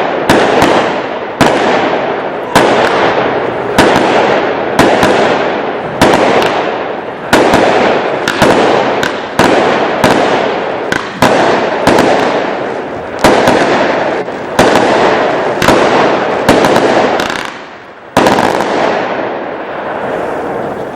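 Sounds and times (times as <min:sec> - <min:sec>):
fireworks bangs: 0:00.0 - 0:20.9
fireworks crackling hiss: 0:00.0 - 0:20.9.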